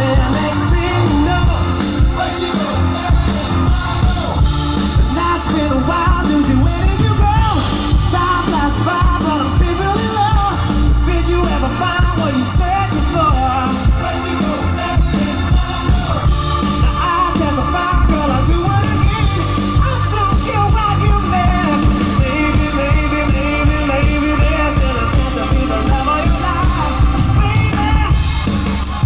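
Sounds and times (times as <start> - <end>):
live band playing: 0.0 - 29.0
person singing lead vocal: 0.0 - 29.0.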